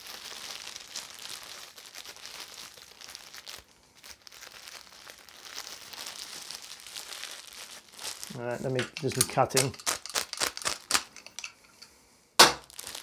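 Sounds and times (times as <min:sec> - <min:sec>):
plastic wrapping crinkling: 0:00.0 - 0:11.7, 0:12.4 - 0:13.0.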